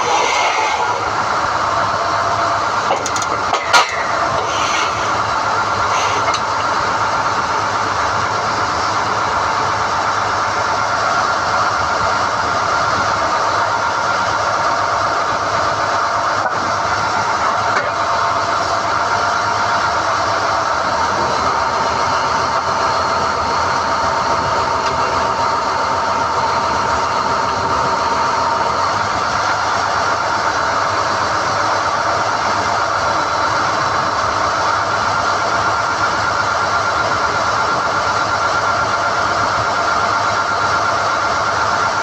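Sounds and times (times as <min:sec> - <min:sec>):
drilling rig engine and hydraulics: 0:00.0 - 0:42.0.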